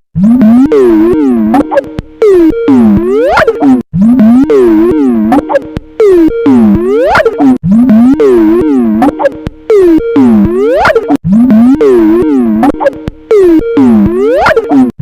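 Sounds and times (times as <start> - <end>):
warped synth ringtone melody: 0.2 - 14.9.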